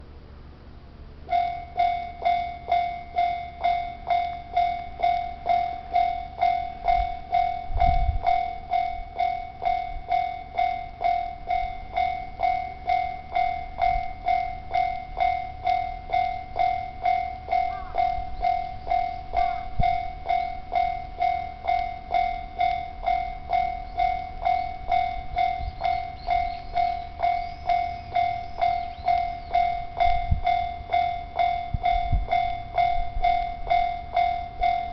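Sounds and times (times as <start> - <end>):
low rumble: 0.0 - 34.9
level crossing bell ringing: 1.3 - 34.9.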